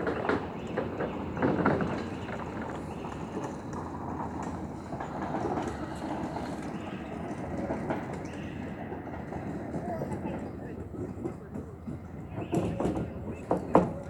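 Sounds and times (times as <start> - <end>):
clattering of train wheels: 0.0 - 14.0.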